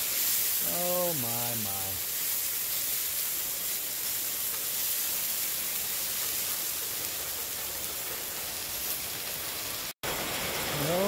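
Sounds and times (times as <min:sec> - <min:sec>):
hash browns sizzling on griddle: 0:00.0 - 0:11.0.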